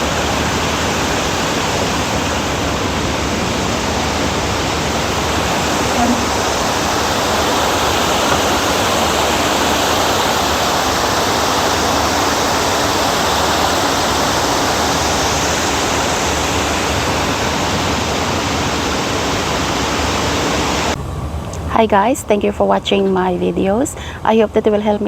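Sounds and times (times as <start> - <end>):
falling water rushing: 0.0 - 21.0.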